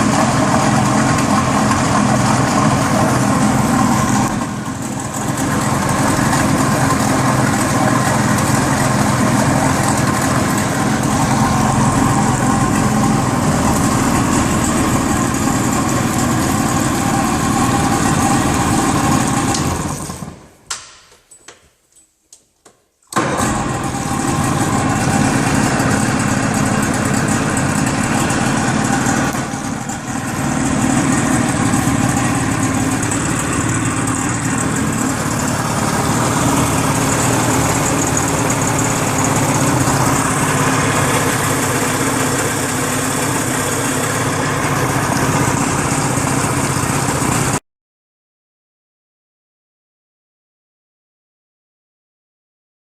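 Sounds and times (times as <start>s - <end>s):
outboard engine running: 0.0s - 20.3s, 23.2s - 47.6s.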